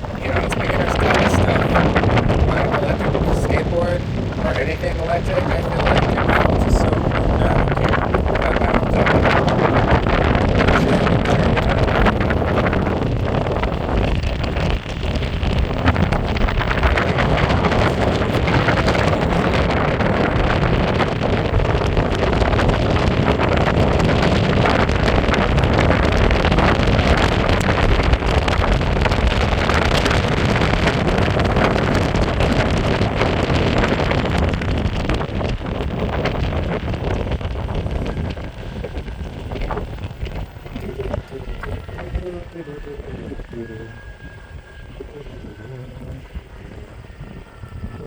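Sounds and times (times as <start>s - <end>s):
skateboard wheels rumbling on pavement: 0.0s - 42.6s, 43.4s - 48.0s
wind on microphone: 0.0s - 48.0s.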